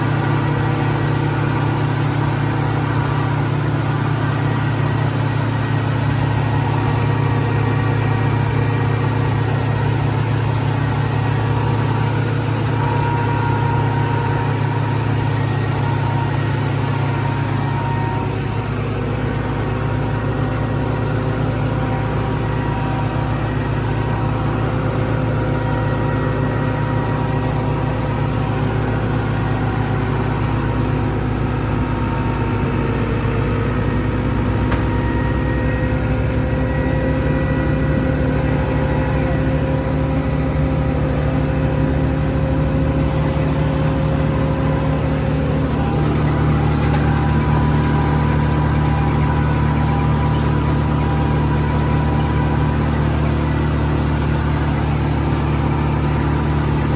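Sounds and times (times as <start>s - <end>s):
chopper machine whining: 0.0s - 56.9s
tractor engine running: 0.0s - 56.9s.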